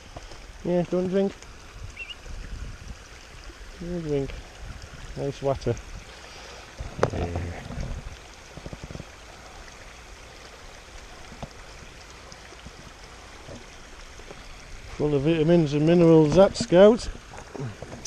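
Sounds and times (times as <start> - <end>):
stream trickling over stones: 0.0 - 18.0.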